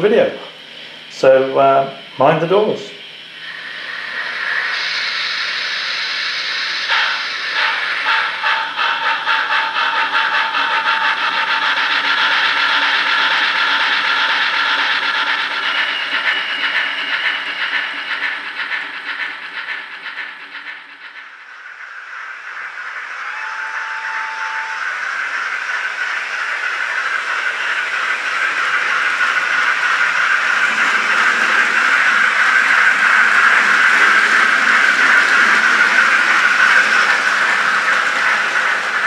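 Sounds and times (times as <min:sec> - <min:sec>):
steam hiss: 0:00.0 - 0:39.0
steam locomotive exhaust chuffs: 0:00.0 - 0:39.0.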